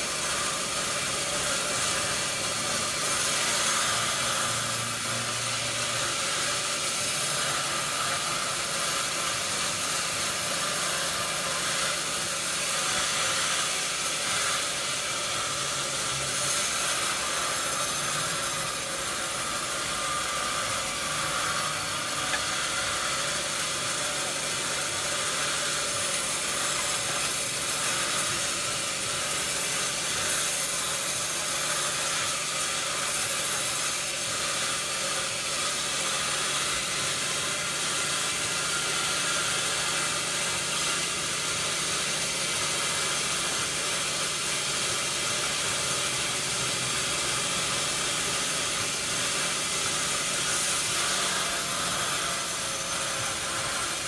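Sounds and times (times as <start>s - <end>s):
sawmill machinery hissing: 0.0s - 54.0s.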